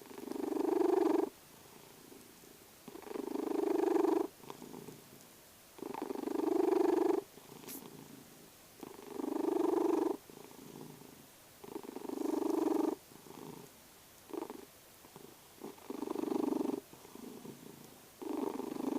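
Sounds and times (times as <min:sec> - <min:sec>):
cat snoring rumble: 0:00.0 - 0:02.2, 0:02.8 - 0:05.1, 0:05.8 - 0:13.7, 0:14.3 - 0:18.9.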